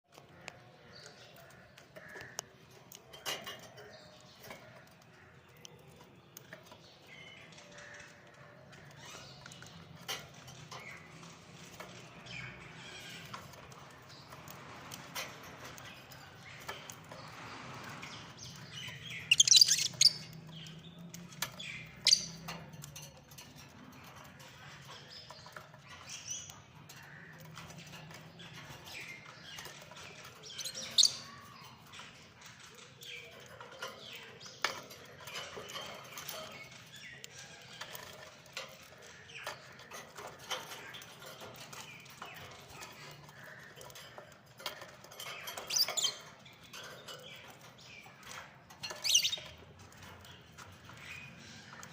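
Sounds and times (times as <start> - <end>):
lovebirds chirping: 0.1 - 51.9.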